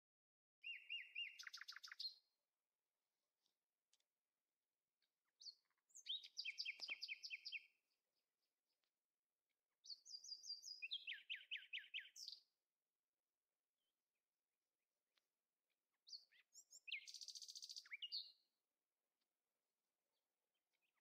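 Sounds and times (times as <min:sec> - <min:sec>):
songbird chirping song: 0:00.6 - 0:21.0.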